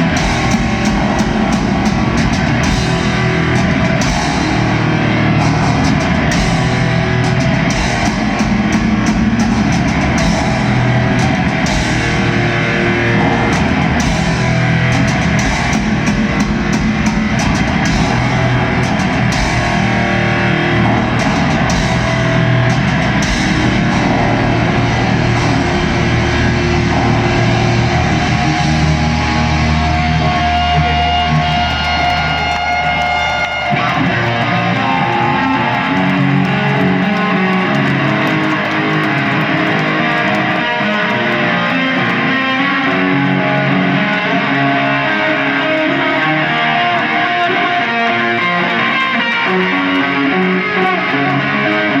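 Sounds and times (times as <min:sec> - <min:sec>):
deep bass line: 0:00.0 - 0:47.0
electric guitar playing: 0:00.0 - 0:52.0.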